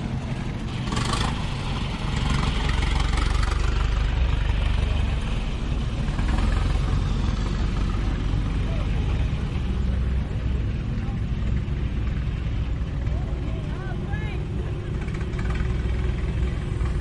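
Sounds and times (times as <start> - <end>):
car engines rumbling: 0.0 - 17.0.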